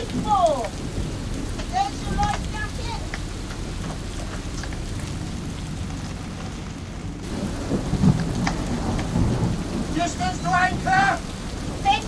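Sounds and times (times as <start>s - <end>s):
boat engine running: 0.0s - 12.0s
deep storm rumble: 0.0s - 12.0s
steady rain: 0.0s - 12.0s.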